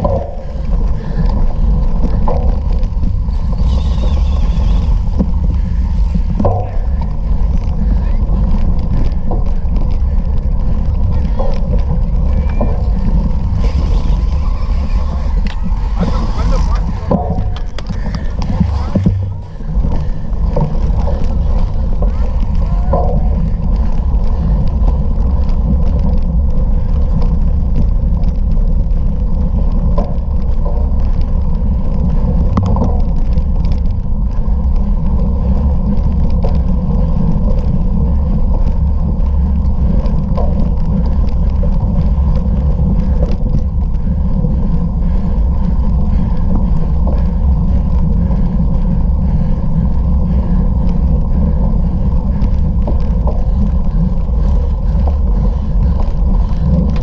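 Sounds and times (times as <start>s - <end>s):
bike and tyre rattle: 0.0s - 57.0s
wind buffeting microphone: 0.0s - 57.0s.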